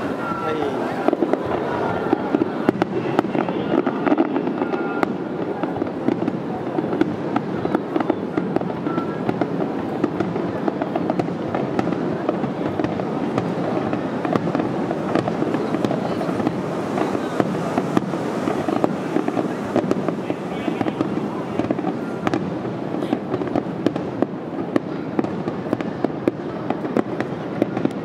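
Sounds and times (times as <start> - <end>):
fireworks crackling and popping: 0.0 - 28.0.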